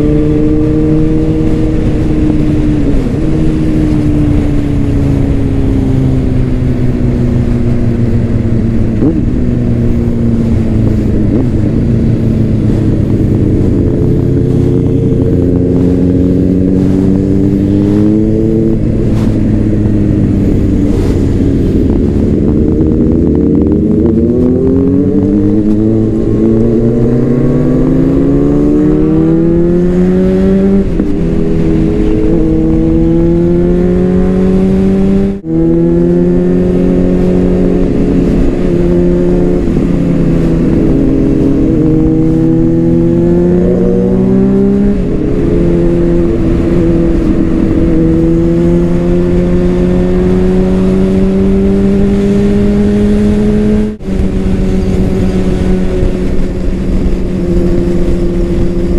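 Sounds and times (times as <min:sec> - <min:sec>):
motorcycle engine revving through gears: 0:00.0 - 0:58.9.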